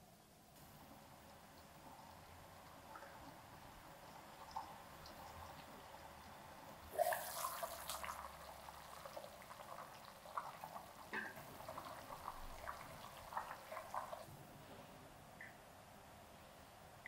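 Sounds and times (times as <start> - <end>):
broth bubbling at a simmer: 0.6 - 14.3.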